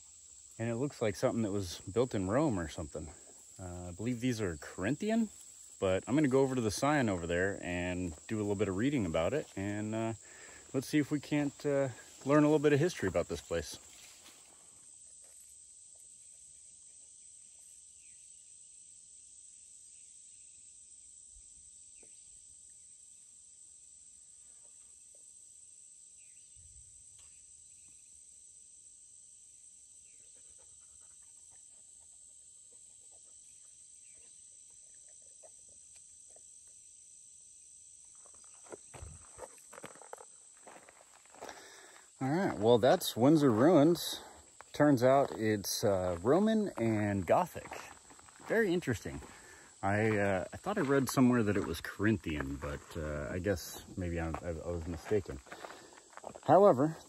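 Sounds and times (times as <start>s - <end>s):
faint insect drone: 0.0s - 57.0s.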